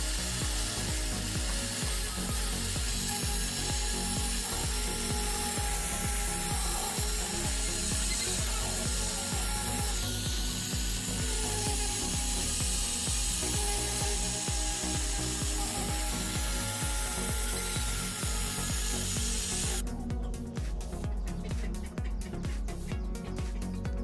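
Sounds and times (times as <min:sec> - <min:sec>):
angle grinder sanding steel: 0:00.0 - 0:19.8
music: 0:00.0 - 0:24.0.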